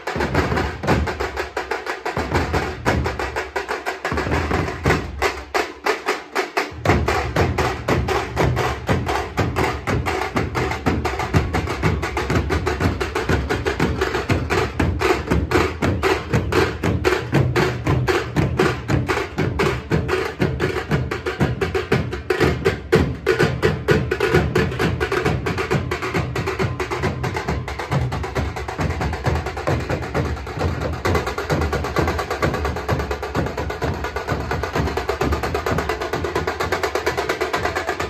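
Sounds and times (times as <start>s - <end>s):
deep drum beat: 0.0s - 5.6s, 6.6s - 38.0s.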